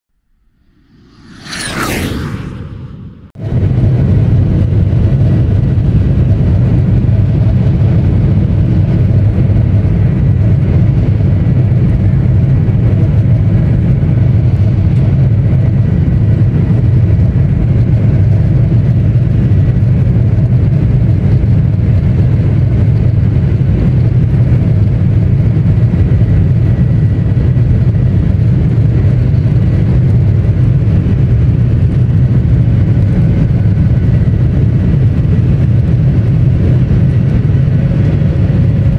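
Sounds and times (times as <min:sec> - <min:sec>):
faint high engine whine: 0:00.1 - 0:38.9
jet engines deep rumble: 0:00.1 - 0:38.9.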